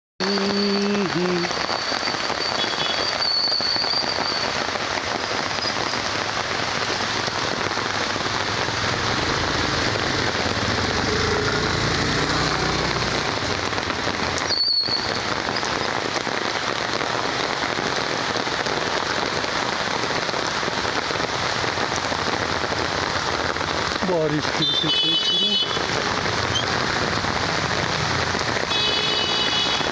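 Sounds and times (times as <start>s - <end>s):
rain falling: 0.2s - 29.9s.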